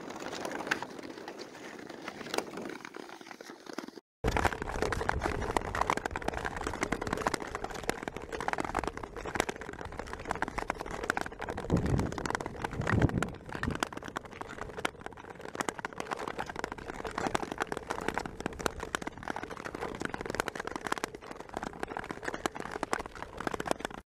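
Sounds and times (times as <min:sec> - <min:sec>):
ice skates scraping over ice: 0:00.0 - 0:24.0.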